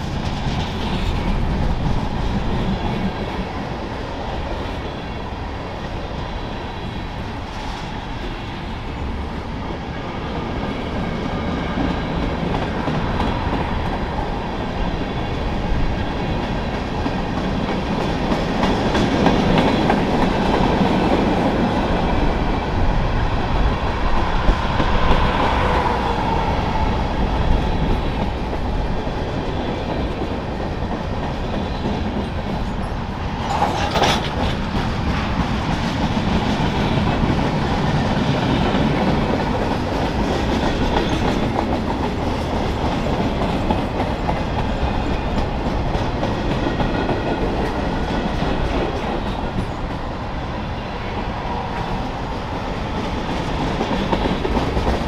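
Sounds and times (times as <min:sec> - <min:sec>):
train wheels running on rail: 0:00.0 - 0:55.0.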